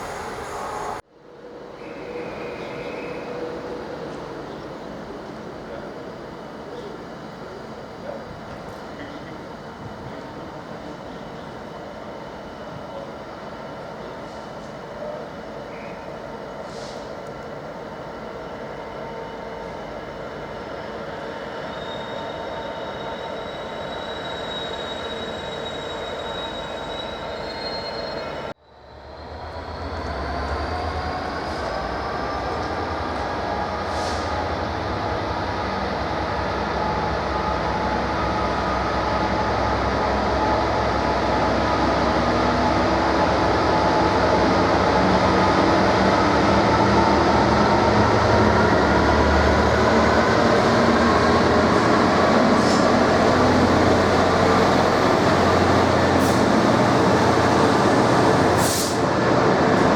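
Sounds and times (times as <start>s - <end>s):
train running: 0.0s - 1.0s, 1.8s - 59.9s.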